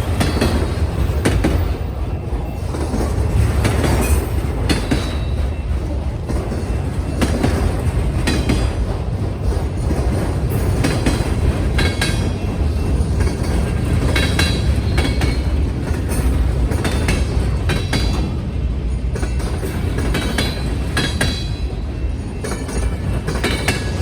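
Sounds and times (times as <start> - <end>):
train wheels banging over crossing: 0.0 - 24.0.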